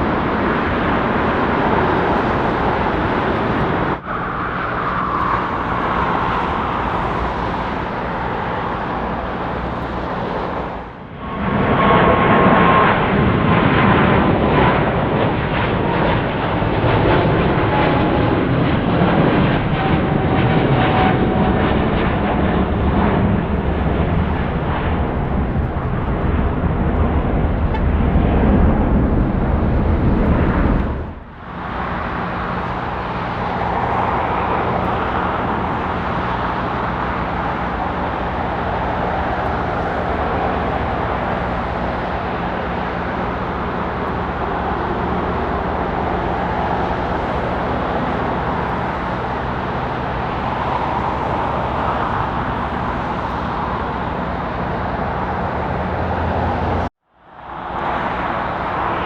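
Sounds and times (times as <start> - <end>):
jet engine hum taxiing: 0.0 - 59.0
jet engines at takeoff power: 0.0 - 59.0.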